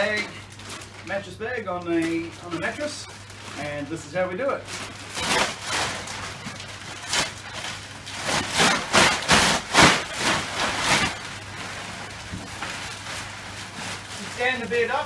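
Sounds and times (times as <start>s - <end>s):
plastic bag rustling and crinkling: 0.0s - 15.0s.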